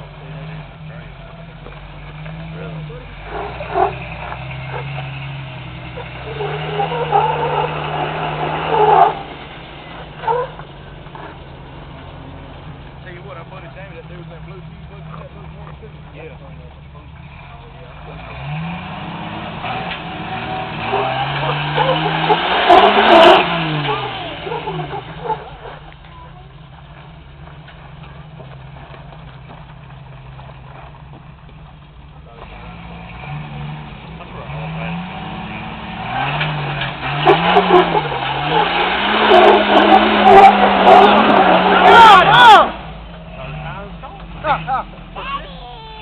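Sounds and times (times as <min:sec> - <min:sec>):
engine revving under load: 0:00.0 - 0:31.3, 0:32.2 - 0:46.0.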